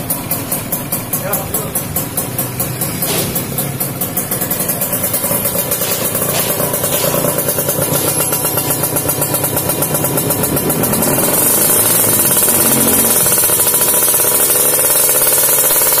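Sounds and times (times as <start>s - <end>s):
motorcycle engine pulsing: 0.0s - 16.0s.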